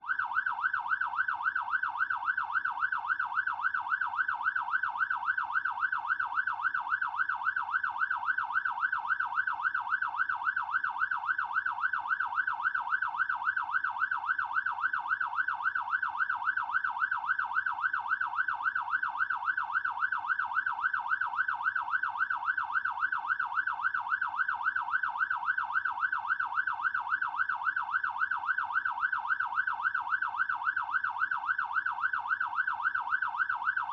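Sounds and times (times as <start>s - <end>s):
fire truck siren yelping: 0.0s - 33.9s.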